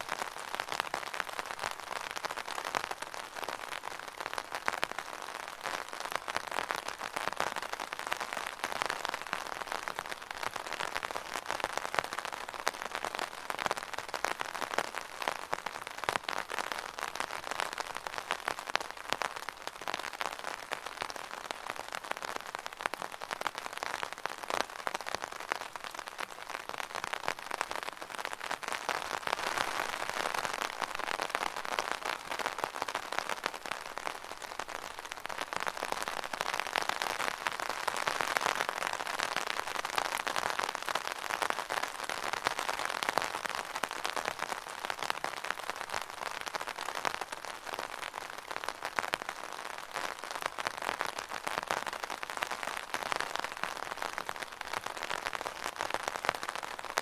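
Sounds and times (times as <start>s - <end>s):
rain drumming on an umbrella: 0.0s - 57.0s.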